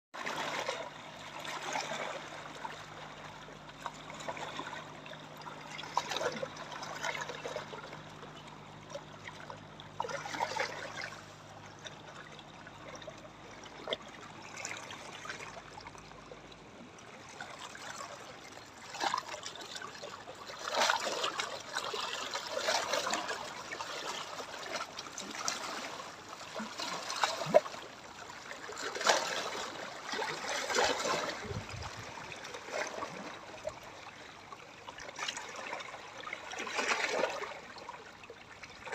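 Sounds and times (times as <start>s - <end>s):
sea water lapping and splashing: 0.2s - 38.9s.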